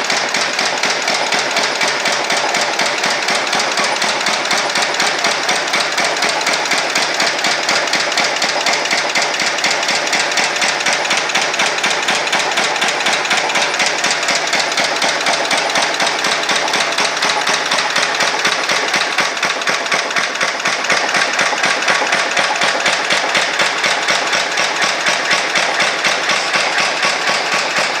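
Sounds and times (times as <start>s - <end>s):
stationary engine knocking rhythmically: 0.0s - 28.0s.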